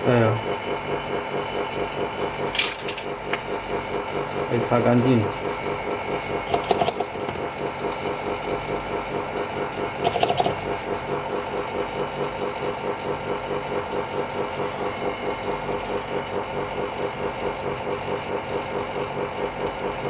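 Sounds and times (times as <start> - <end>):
small pump pulsing: 0.0 - 20.0.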